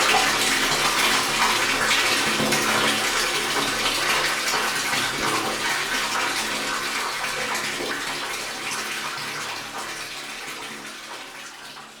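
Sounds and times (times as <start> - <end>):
water pouring into a tank: 0.0 - 12.0.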